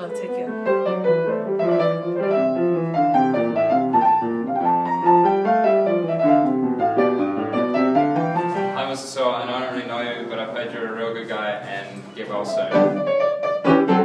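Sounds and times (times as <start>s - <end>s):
grand piano playing: 0.0s - 11.4s, 12.2s - 14.0s.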